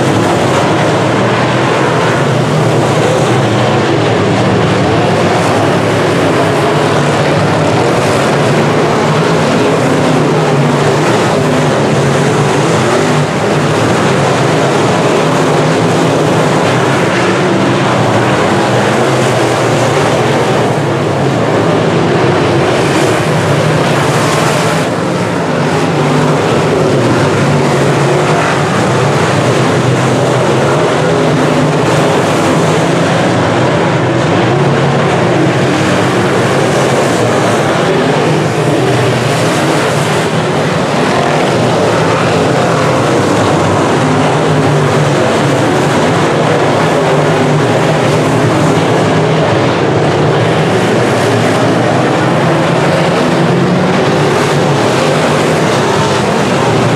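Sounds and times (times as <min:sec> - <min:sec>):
race car engines at full throttle: 0:00.0 - 0:56.9.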